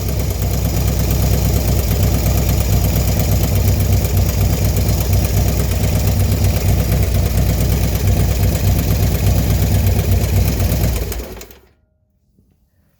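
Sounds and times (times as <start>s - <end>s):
engine clicking noise: 0.0s - 11.7s
small engine idling: 0.0s - 11.7s.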